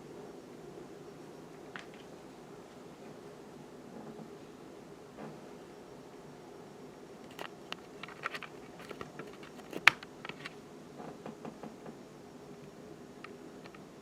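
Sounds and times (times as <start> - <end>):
ceiling fan humming: 0.0 - 14.0.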